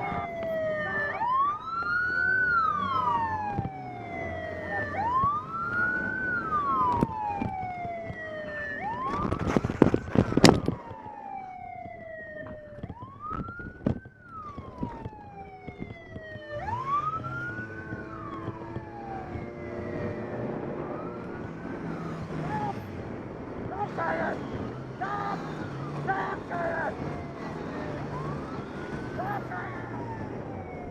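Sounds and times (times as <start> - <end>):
police siren wailing: 0.0 - 30.9
vehicle engine: 0.0 - 30.9.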